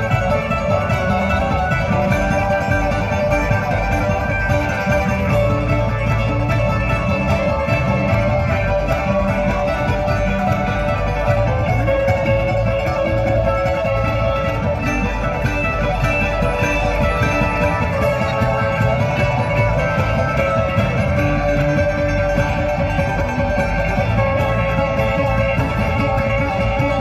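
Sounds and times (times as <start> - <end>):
bluegrass string band playing: 0.0 - 27.0.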